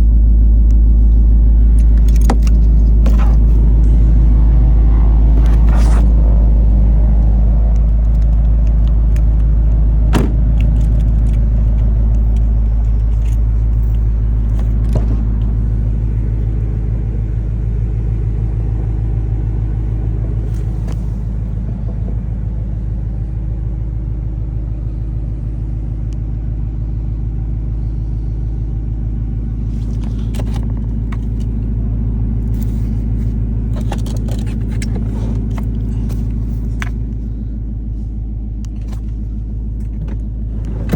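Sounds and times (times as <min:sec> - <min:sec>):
engine rumbling: 0:00.0 - 0:40.9.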